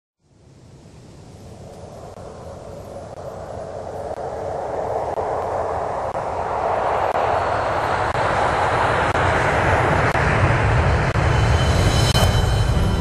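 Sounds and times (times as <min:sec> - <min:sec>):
steady rushing noise: 0:00.3 - 0:13.0.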